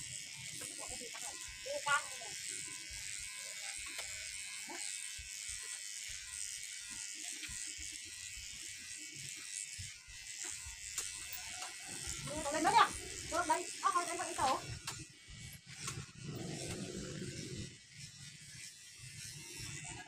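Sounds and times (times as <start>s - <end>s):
electric hair clippers buzzing: 0.0s - 20.0s.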